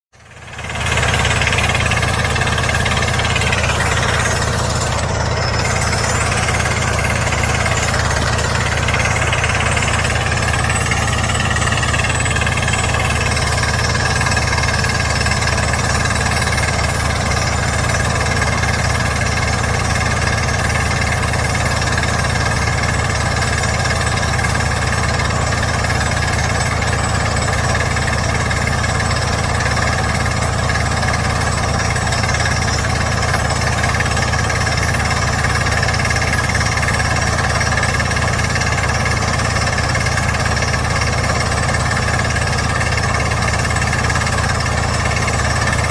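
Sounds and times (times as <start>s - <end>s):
rock drill rapid hammering: 0.2s - 45.9s.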